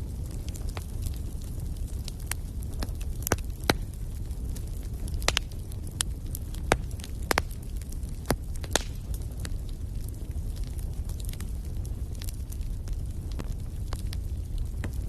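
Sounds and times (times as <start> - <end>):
low rumble of flames: 0.0 - 15.0
wood fire pops and snaps: 0.0 - 15.0.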